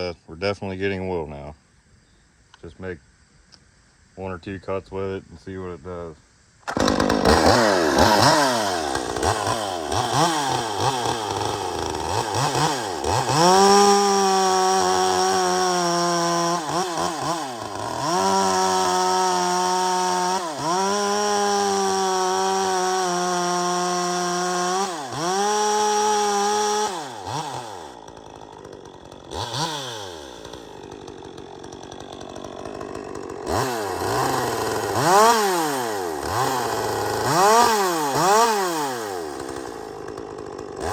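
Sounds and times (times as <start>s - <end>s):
chainsaw revving and cutting wood: 6.6s - 40.9s.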